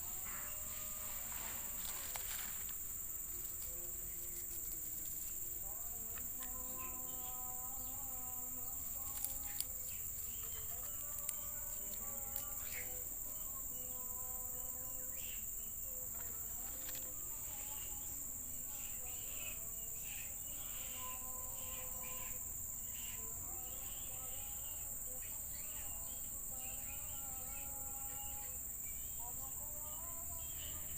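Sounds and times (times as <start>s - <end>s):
insects droning: 0.0s - 30.9s.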